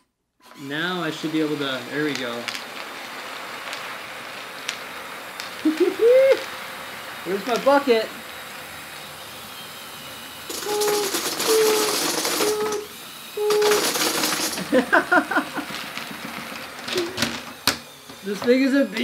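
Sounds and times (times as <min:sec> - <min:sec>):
electric motor humming: 0:00.5 - 0:19.0
plastic bricks clattering: 0:00.8 - 0:09.3, 0:10.3 - 0:19.0.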